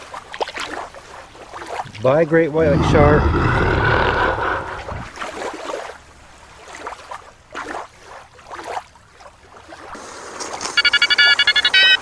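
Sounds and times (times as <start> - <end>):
water splashing and sloshing: 0.0 - 3.1, 4.2 - 12.0.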